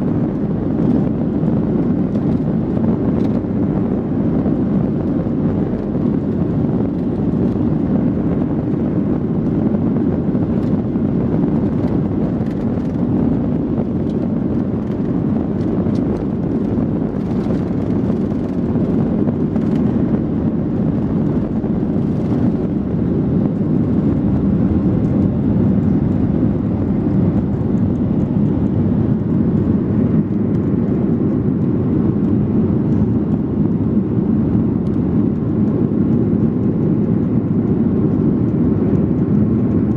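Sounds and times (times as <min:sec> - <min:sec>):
aircraft cabin jet engine rush: 0:00.0 - 0:39.9.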